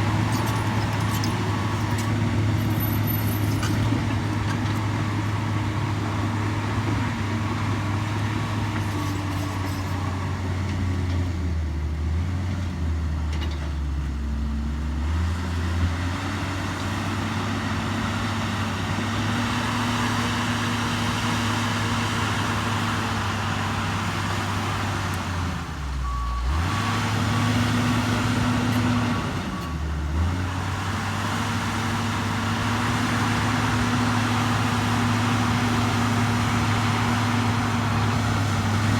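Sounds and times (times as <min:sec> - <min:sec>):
bulldozer diesel engine running: 0:00.0 - 0:15.2, 0:16.1 - 0:38.9.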